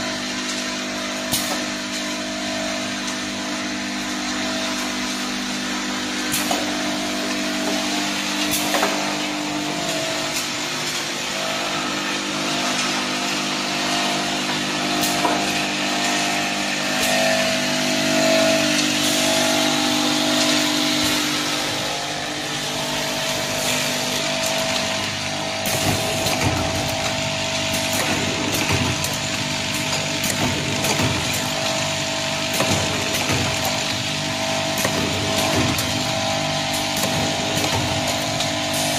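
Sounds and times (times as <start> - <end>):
machine motor hum and whine: 0.0 - 38.9.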